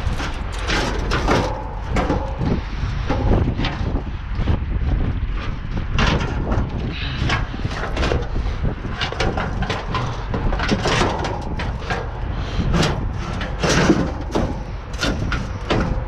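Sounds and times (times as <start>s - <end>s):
junk clunking and scraping in dumpster: 0.0s - 16.0s
wind rumble on microphone: 0.0s - 16.0s.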